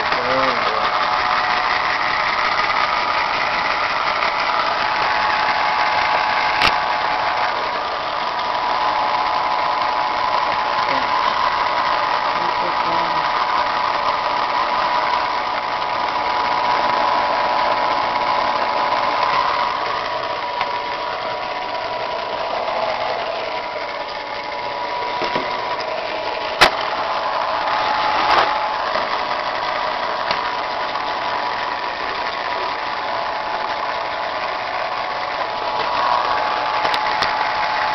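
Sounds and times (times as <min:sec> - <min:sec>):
pencil sharpener motor whirring: 0:00.0 - 0:37.9.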